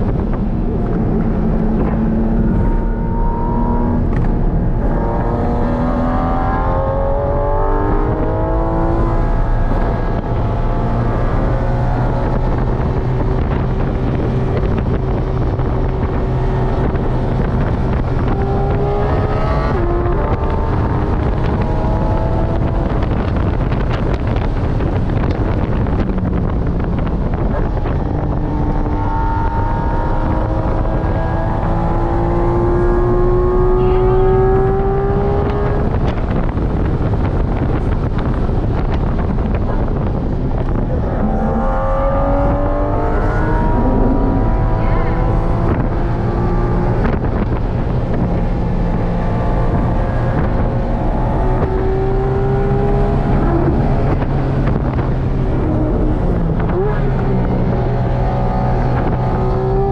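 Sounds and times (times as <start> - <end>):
car engine revving: 0.0 - 59.9
wind noise: 0.0 - 59.9.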